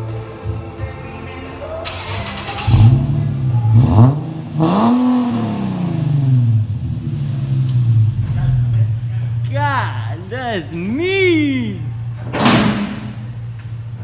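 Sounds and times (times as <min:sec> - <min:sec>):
car engine idling and revving: 0:01.8 - 0:12.4, 0:13.0 - 0:14.0.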